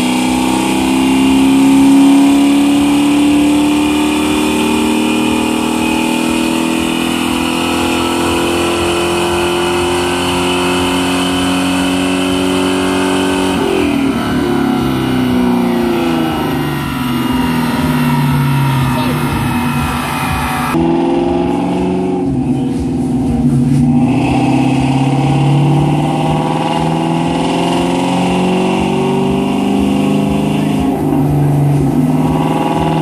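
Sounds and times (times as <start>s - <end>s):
car engine at full throttle: 0.0s - 33.0s.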